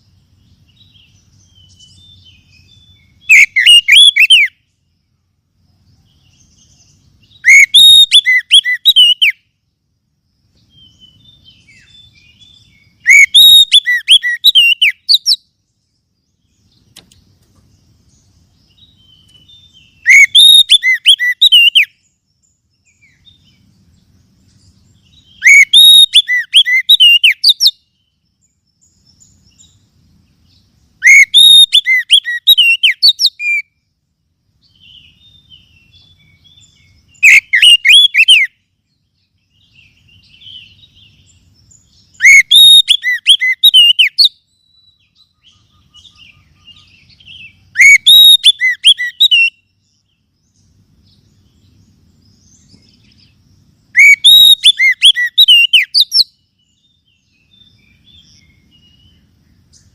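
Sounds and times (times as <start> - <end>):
bird song chattering notes: 0.0 - 4.9, 5.8 - 9.7, 10.5 - 33.7, 34.6 - 59.9.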